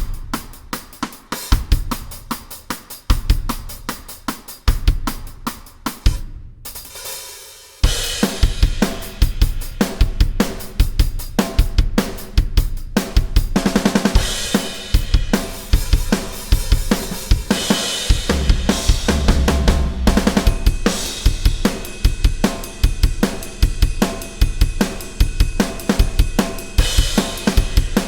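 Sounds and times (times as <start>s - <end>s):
drum kit playing a beat: 0.0s - 28.0s.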